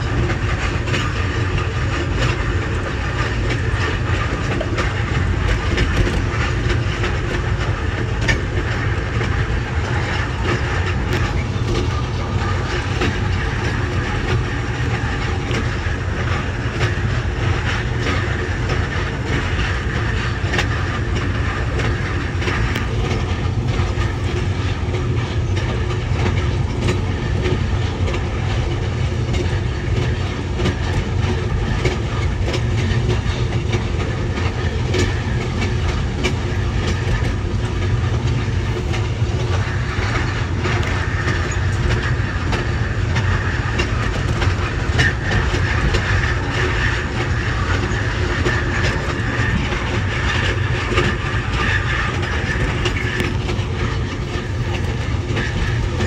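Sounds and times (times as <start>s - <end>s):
train ride rumble: 0.0s - 56.0s
wheels clicking over track: 0.0s - 56.0s.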